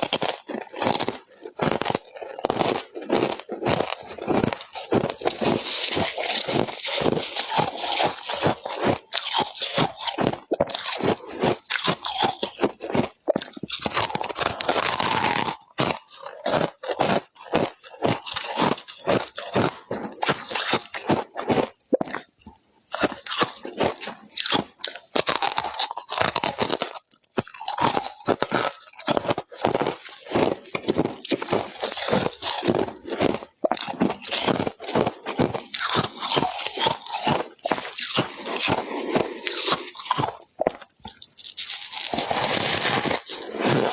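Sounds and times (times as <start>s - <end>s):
ice being chewed crunching: 0.0s - 43.9s.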